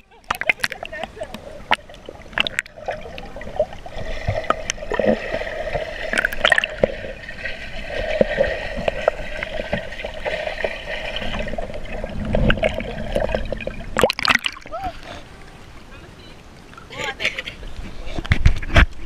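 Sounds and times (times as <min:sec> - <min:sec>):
underwater churning and bubbling: 0:00.0 - 0:17.0.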